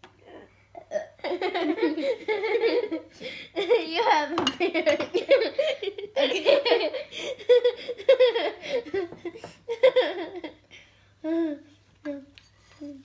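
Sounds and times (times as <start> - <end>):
girls giggling: 0.9 - 11.6.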